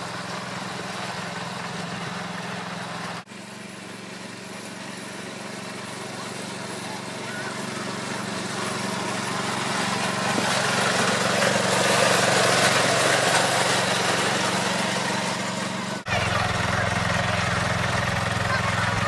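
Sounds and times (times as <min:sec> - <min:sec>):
garden tractor engine running: 0:00.0 - 0:19.0.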